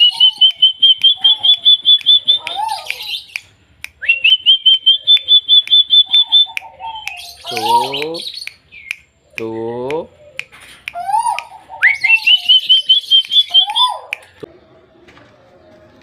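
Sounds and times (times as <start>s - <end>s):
caged bird calling: 0.0s - 16.0s.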